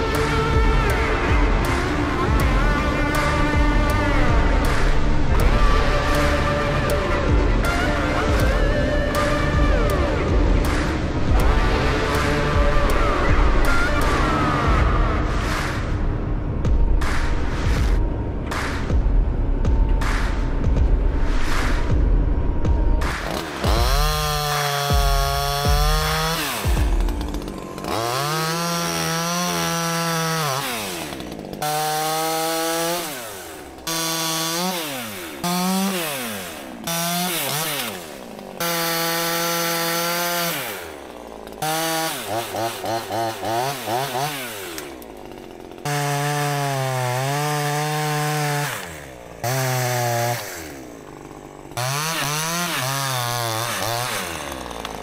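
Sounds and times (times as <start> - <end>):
chainsaw revving: 0.0 - 15.9, 23.0 - 55.0.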